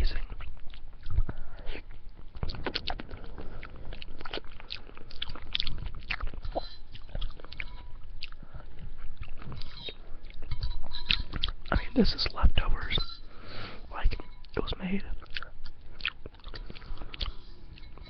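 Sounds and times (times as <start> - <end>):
small mouth clicks: 0.1 - 11.8, 14.0 - 18.0
chewing with wet mouth smacks: 0.2 - 11.7, 14.1 - 18.0.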